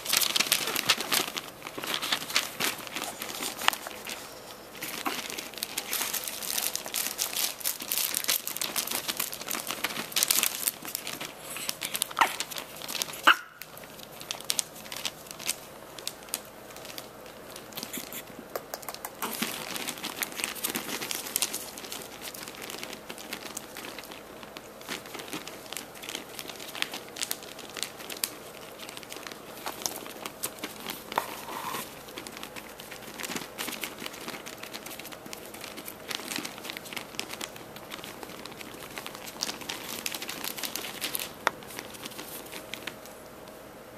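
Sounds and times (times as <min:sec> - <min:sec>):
newspaper rustling under paws: 0:00.0 - 0:18.3, 0:19.2 - 0:43.6.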